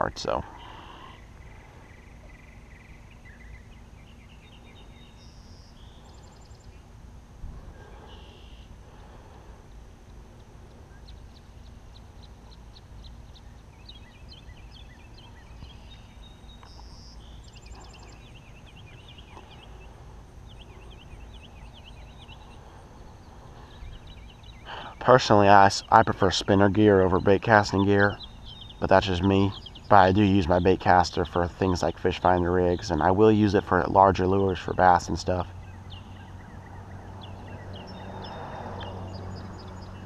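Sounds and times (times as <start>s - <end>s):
songbirds chirping and trilling: 0.0s - 40.0s
steady low rumble: 0.0s - 40.0s.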